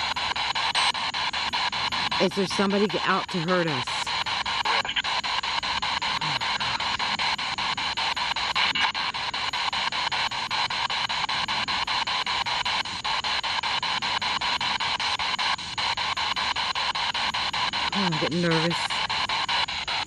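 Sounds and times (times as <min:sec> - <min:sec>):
radio static: 0:00.0 - 0:20.0
rapid even clicks: 0:00.0 - 0:20.0.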